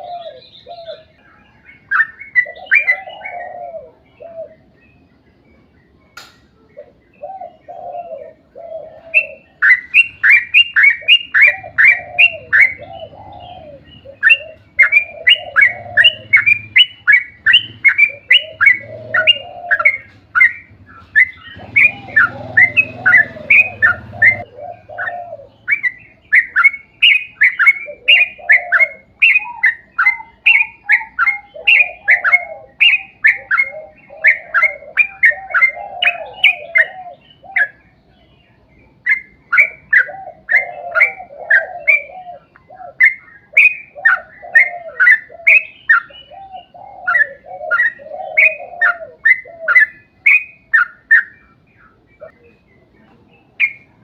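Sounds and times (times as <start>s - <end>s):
bird singing rapid sharp notes: 9.1s - 54.0s.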